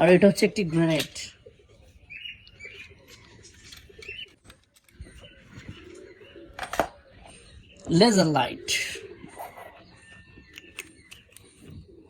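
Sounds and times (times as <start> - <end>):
faint bird chirps: 1.4 - 12.0.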